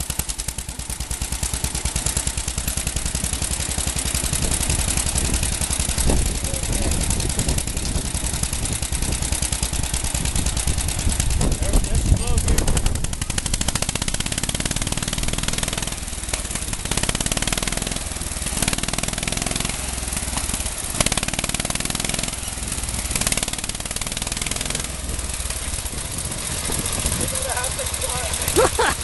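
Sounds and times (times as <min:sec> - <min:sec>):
engine exhaust popping: 0:00.0 - 0:29.0.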